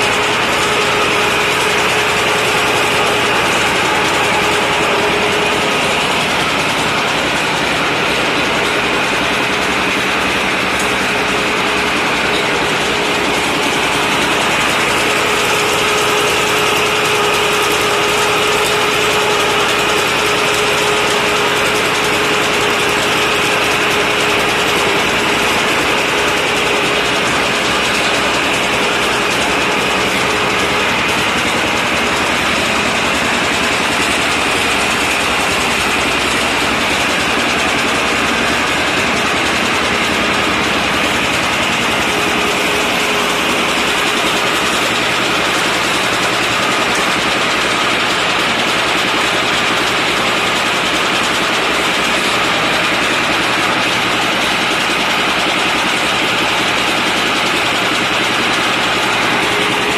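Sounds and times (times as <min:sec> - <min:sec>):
drilling rig engine and gears: 0:00.0 - 0:59.9.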